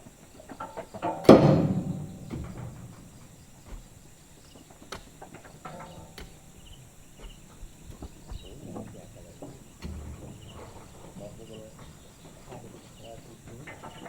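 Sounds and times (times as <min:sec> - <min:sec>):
faint knocks and clicks: 0:00.4 - 0:14.0.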